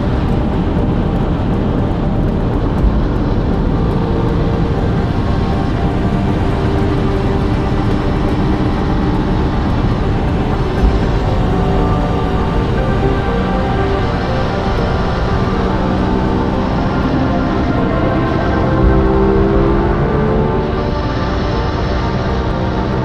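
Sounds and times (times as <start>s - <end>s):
low thumps: 0.0s - 21.0s
motorcycle engine cruising: 0.0s - 23.0s
wind rush on microphone: 0.0s - 23.0s.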